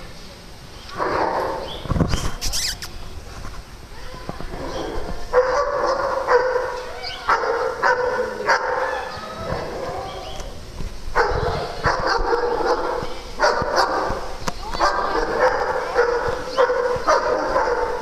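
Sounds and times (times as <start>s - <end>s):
dogs yipping: 1.0s - 2.9s, 4.8s - 10.5s, 11.2s - 18.0s.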